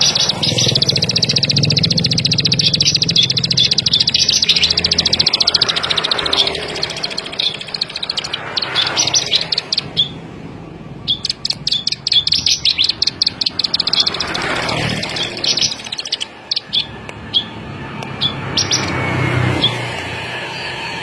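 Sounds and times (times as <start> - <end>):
bird singing high chirps: 0.0 - 21.0.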